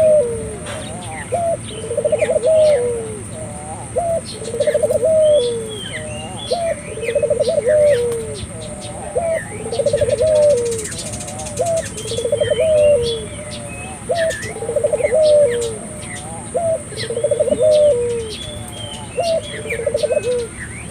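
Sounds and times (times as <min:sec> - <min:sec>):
dove cooing: 0:00.0 - 0:20.9
small birds chirping faintly: 0:00.0 - 0:20.9.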